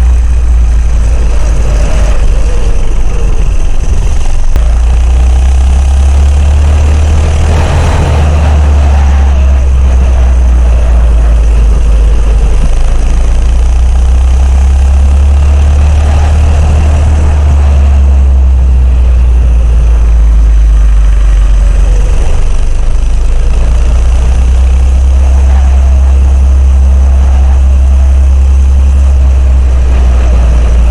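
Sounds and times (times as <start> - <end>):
minibike engine running: 0.0 - 30.9.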